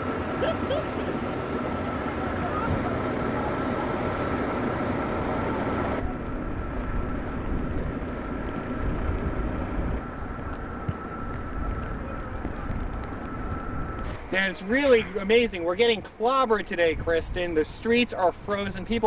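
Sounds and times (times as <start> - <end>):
passing traffic: 0.0 - 19.0
wind: 0.0 - 19.0.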